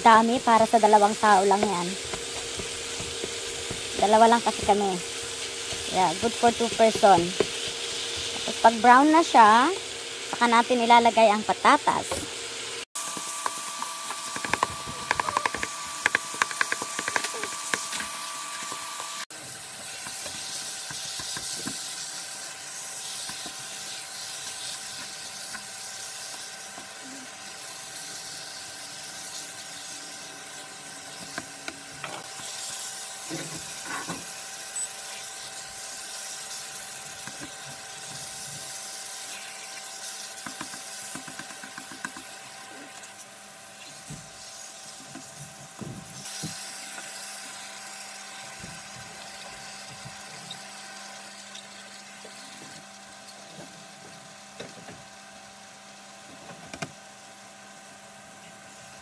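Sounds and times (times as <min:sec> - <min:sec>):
meat sizzling in frying pan: 0:00.0 - 0:54.5.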